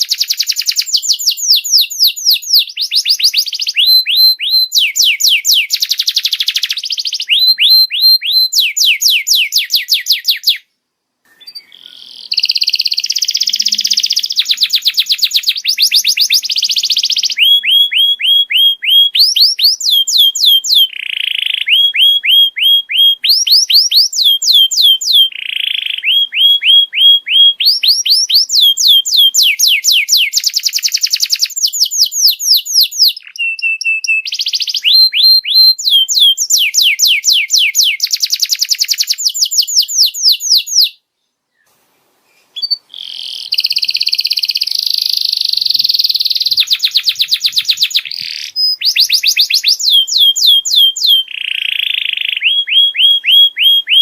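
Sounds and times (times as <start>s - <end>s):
canary singing trills: 0.0s - 10.7s, 11.3s - 41.7s, 42.3s - 54.0s.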